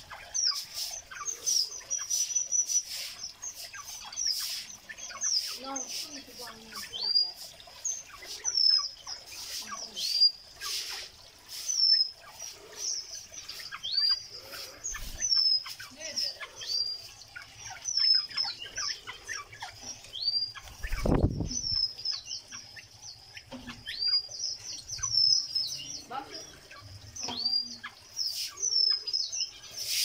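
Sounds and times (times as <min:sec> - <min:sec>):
parrots chirping and twittering: 0:00.0 - 0:30.0.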